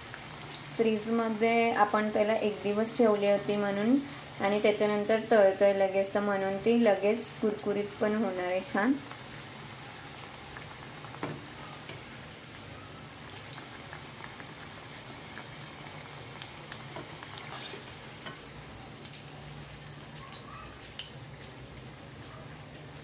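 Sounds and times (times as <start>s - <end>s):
food deep-frying in oil: 0.0s - 23.0s.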